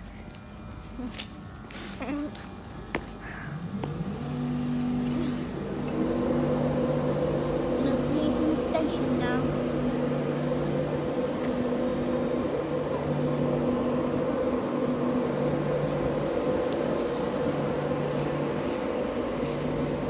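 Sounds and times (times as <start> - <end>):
train humming: 0.0 - 20.0.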